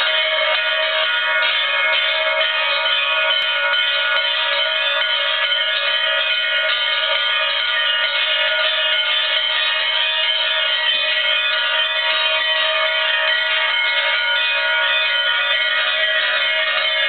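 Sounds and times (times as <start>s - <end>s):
bell-like chiming music: 0.0s - 17.0s.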